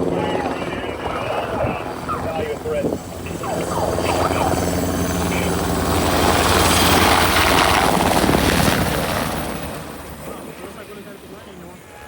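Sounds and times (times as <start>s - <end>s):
aircraft passing overhead: 0.0s - 12.0s.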